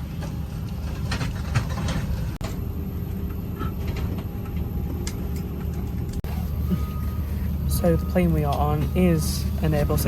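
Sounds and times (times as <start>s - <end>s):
air conditioning running: 0.0s - 10.0s
aircraft cabin hum: 0.0s - 10.0s.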